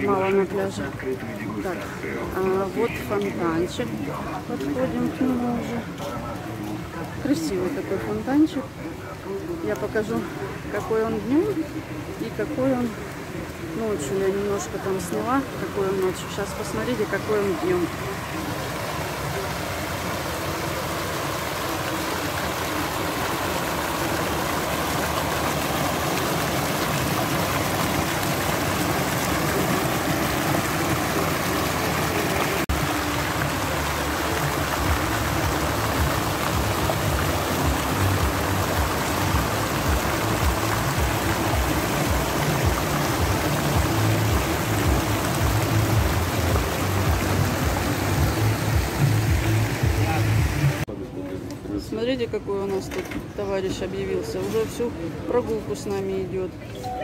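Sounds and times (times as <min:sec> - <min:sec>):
fountain water splashing: 0:00.0 - 0:57.0.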